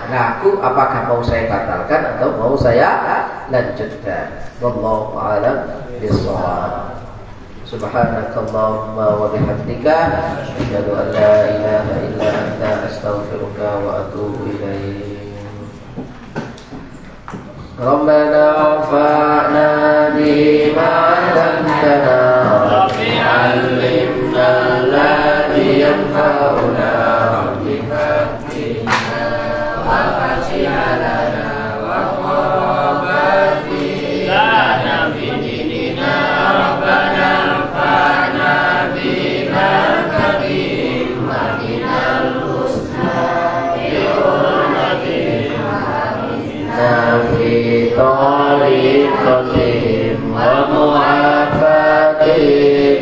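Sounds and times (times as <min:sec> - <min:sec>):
voices chanting a prayer: 0:00.0 - 0:53.0.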